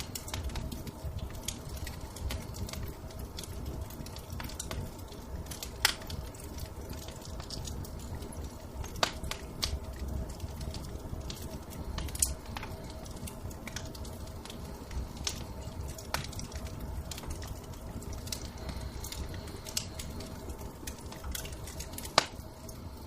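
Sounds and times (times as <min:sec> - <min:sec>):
sharp fire pops: 0:00.0 - 0:22.7
low steady rumble: 0:00.0 - 0:23.0
wood fire crackling: 0:00.0 - 0:23.0.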